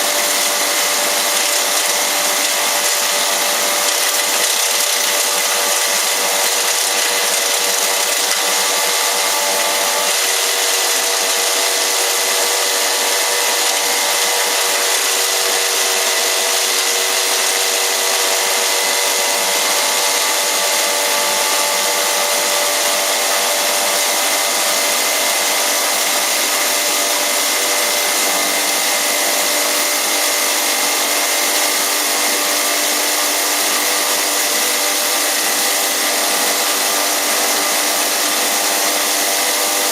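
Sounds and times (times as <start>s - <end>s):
electric grinder running: 0.0s - 39.9s.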